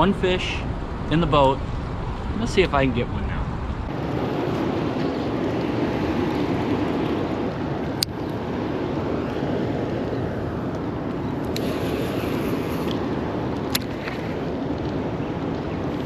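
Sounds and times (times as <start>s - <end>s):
moving water: 0.0s - 16.0s
wind: 0.0s - 16.0s.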